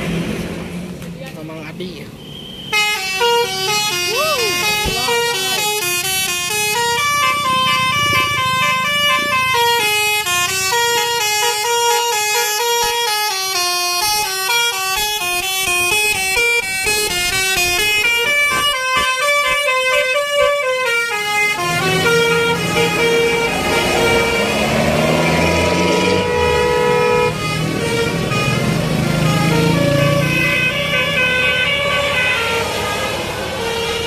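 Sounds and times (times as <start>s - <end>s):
bus engine running: 0.0s - 1.7s, 2.6s - 34.0s
musical bus horn melody: 2.2s - 34.0s.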